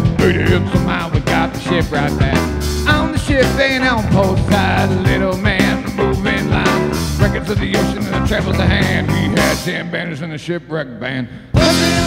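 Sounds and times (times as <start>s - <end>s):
drum kit steady beat: 0.0s - 9.8s, 11.6s - 12.0s
electric guitars: 0.0s - 9.8s, 11.6s - 12.0s
live rock band playing: 0.0s - 9.9s, 11.5s - 12.0s.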